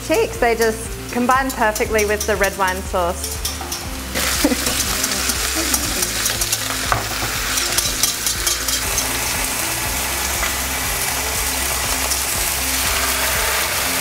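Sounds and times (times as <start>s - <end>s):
meat sizzling in frying pan: 0.0s - 14.0s.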